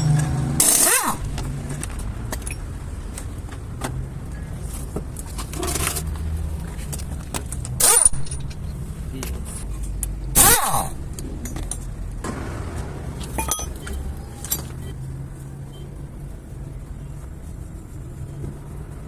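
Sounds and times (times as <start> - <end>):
car engine drone: 0.0 - 19.0.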